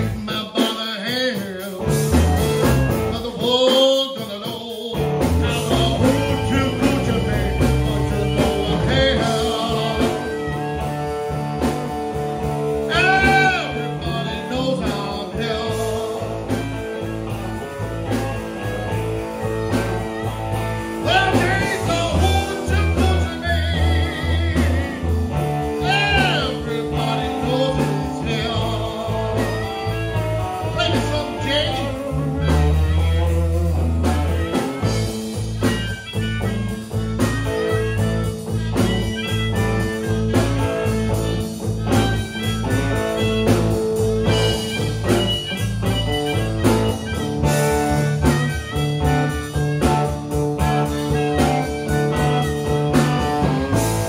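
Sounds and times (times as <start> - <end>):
electric bass line: 0.0 - 0.5, 1.7 - 3.6, 4.9 - 54.0
electric guitars: 0.0 - 54.0
harmonica: 0.0 - 54.0.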